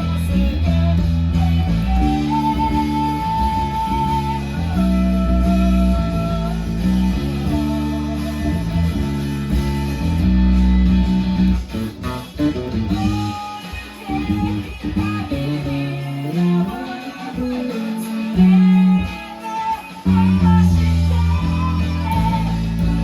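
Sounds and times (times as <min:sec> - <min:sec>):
electric bass low notes: 0:00.0 - 0:23.0
guitar melody: 0:00.0 - 0:23.0.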